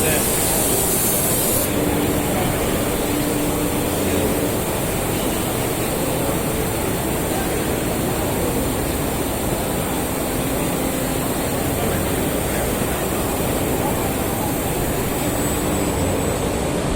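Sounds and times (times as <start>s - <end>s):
general hall noise: 0.0s - 16.9s
machinery running: 0.0s - 16.9s.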